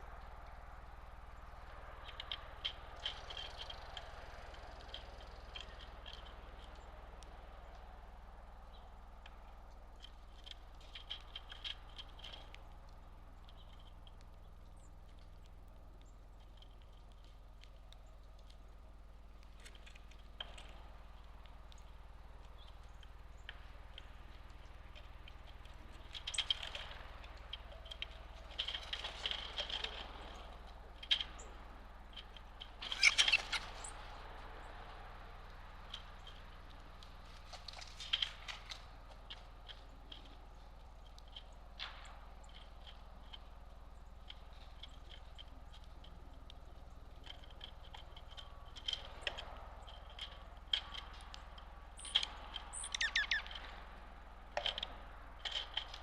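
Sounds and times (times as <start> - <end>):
birds pecking seed: 0.0 - 56.0
faint low hum: 0.0 - 56.0.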